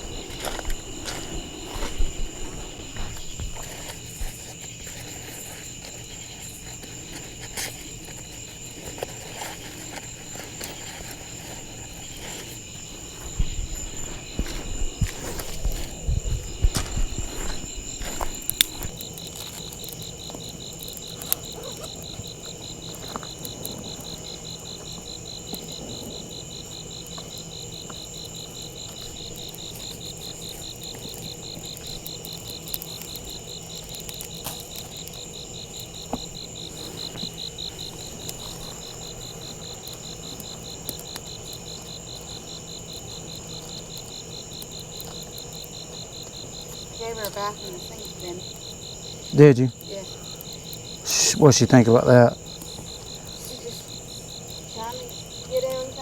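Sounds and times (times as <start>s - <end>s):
insect pulsing trill: 0.0s - 56.0s.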